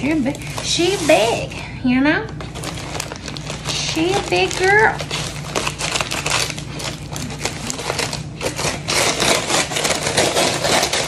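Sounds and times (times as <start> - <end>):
packing material crinkling: 0.0 - 1.7, 2.4 - 11.0.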